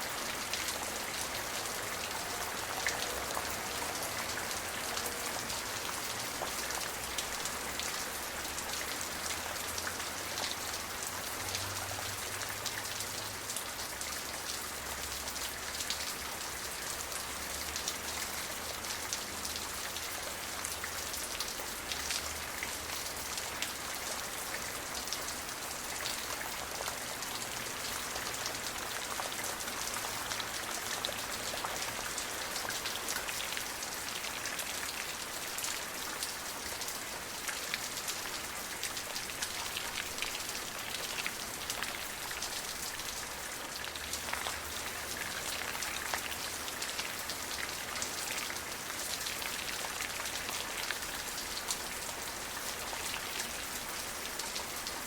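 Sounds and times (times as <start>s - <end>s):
rain drops pattering: 0.0s - 55.0s.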